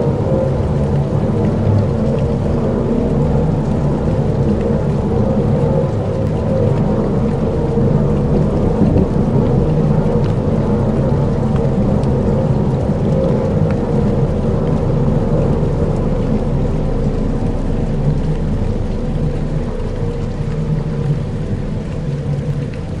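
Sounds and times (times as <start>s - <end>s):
faint droning hum: 0.0s - 23.0s
rain and thunder rumble: 0.0s - 23.0s.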